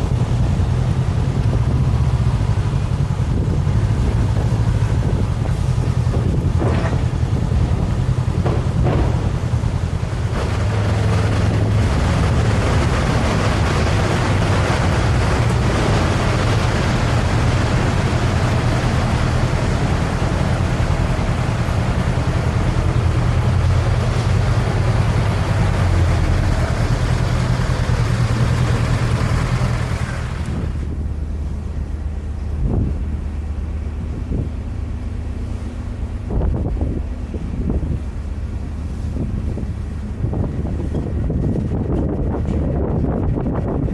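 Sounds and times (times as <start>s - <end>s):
engine running: 0.0s - 43.9s
wind noise on microphone: 0.0s - 43.9s.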